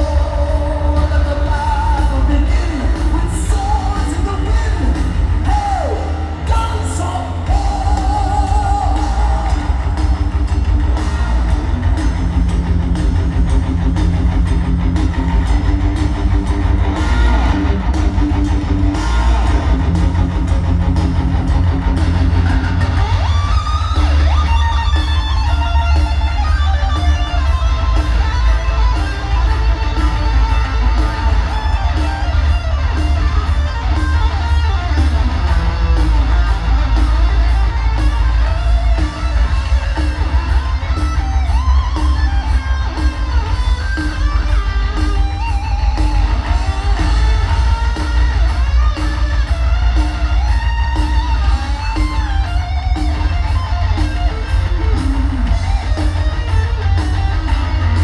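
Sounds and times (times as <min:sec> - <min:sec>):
live heavy metal band: 0:00.0 - 0:58.0.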